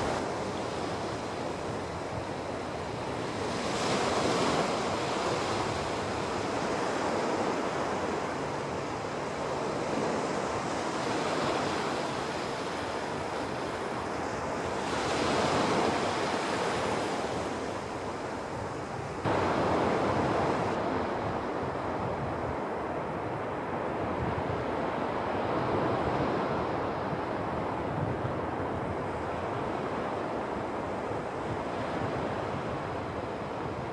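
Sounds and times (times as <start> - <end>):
waves washing up beach: 0.0 - 33.9.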